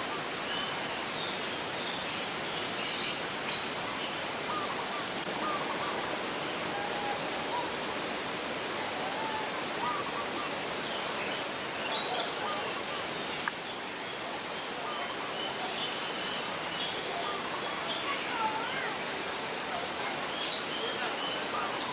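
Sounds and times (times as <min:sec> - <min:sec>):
running water rushing: 0:00.0 - 0:21.9.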